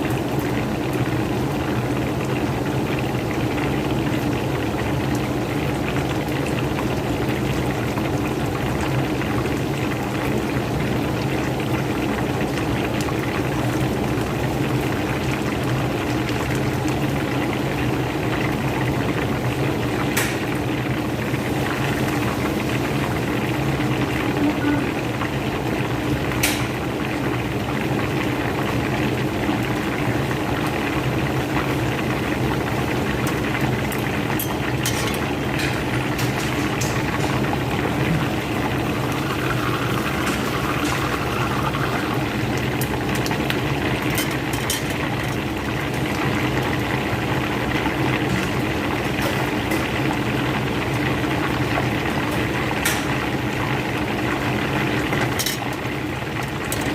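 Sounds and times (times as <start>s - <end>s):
chicken deep-frying in oil: 0.0s - 56.9s.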